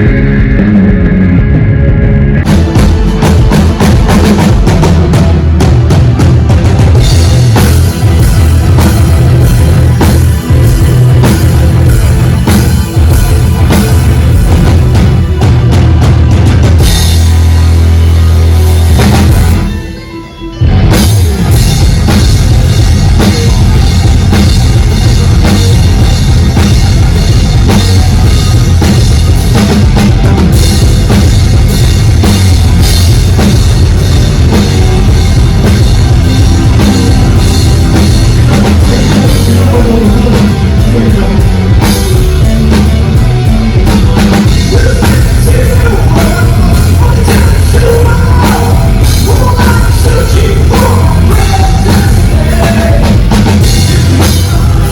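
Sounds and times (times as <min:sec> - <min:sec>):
loud rock music: 0:00.0 - 0:54.9.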